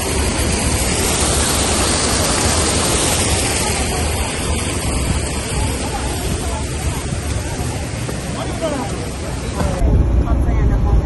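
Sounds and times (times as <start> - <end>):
stream water rushing and splashing: 0.0 - 9.8.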